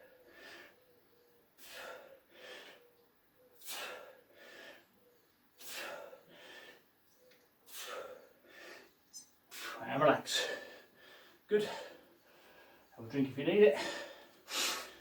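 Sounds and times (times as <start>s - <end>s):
man breathing hard: 0.0s - 0.9s, 1.5s - 7.0s, 7.6s - 13.0s, 13.7s - 15.0s.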